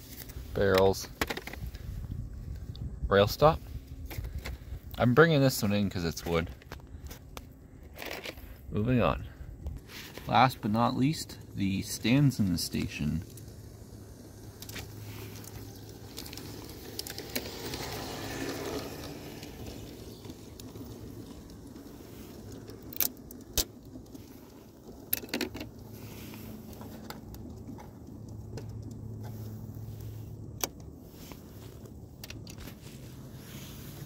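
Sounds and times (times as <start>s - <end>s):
low outdoor background hum: 0.0s - 34.0s.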